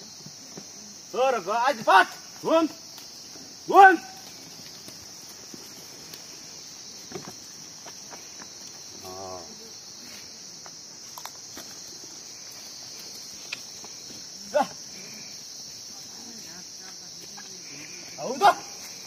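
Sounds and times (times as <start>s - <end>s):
insect chorus hiss: 0.0s - 19.0s.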